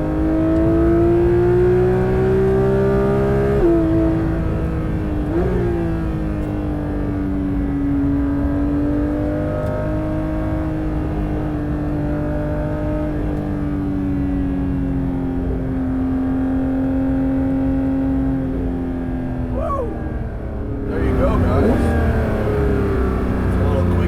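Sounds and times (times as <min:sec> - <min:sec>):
car engine at high revs: 0:00.0 - 0:24.0.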